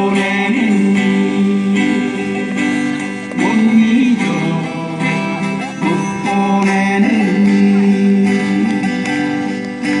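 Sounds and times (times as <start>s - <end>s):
acoustic guitars playing: 0.0s - 10.0s.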